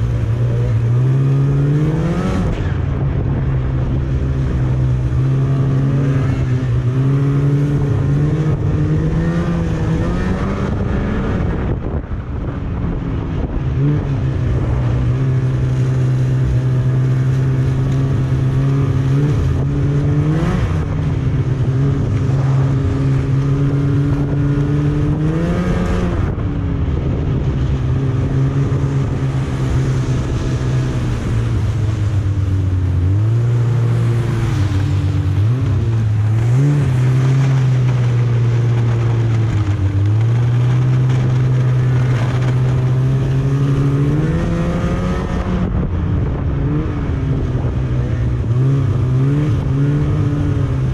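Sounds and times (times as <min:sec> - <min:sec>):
snowmobile engine running: 0:00.0 - 0:50.9.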